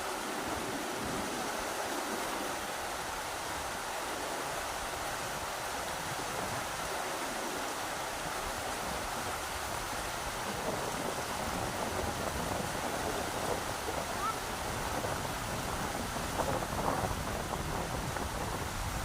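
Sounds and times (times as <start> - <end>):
rushing river water: 0.0 - 19.0
wind buffeting: 0.0 - 19.0.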